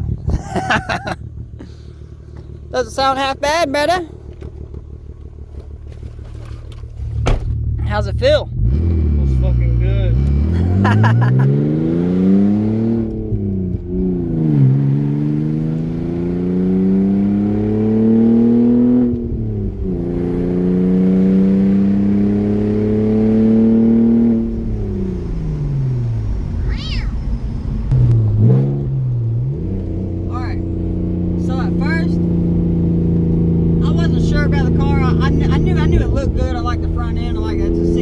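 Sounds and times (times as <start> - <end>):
unmuffled car engine accelerating: 0.0 - 38.0.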